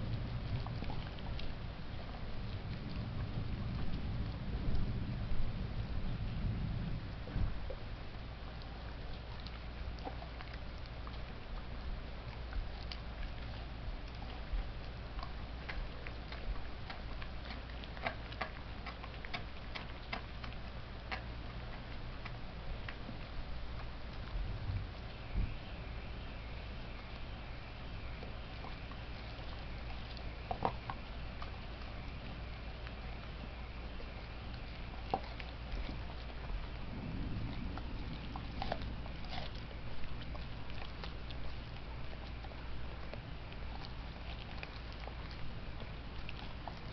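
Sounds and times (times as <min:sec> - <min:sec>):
dog chewing bone: 0:00.0 - 0:46.9
steady low hum: 0:00.0 - 0:46.9.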